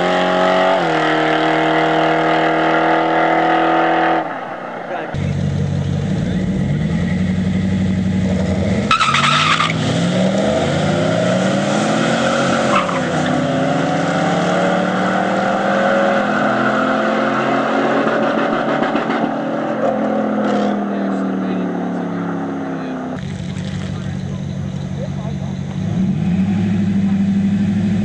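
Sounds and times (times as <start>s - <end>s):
race car engines revving: 0.0s - 28.0s
tire screech: 0.0s - 28.0s.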